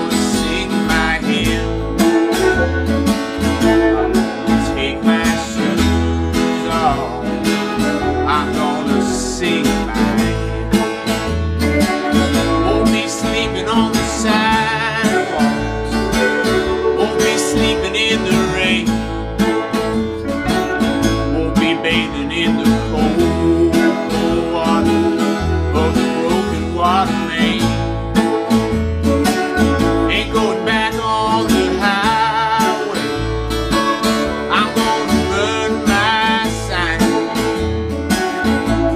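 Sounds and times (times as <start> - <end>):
acoustic guitar: 0.0 - 38.9
bass: 0.0 - 38.9
electric guitar: 0.0 - 38.9
fiddle: 0.0 - 38.9.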